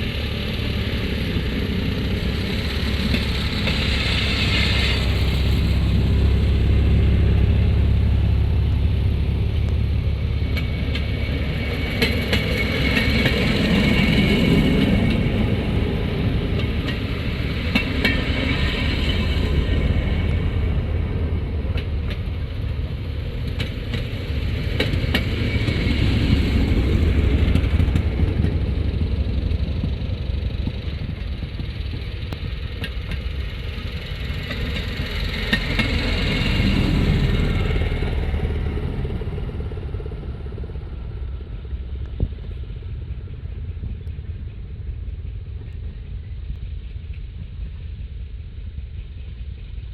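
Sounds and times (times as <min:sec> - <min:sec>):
rail motorcar engines rumbling: 0:00.0 - 0:49.9.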